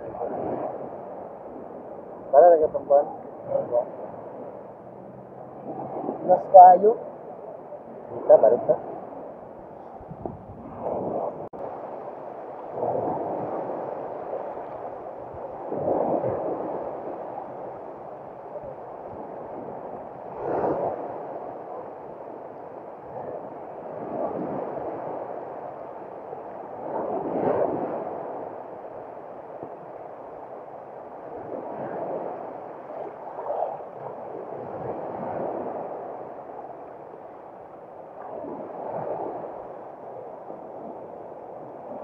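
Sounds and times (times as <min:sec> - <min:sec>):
small waves breaking on shore: 0:00.0 - 0:42.0.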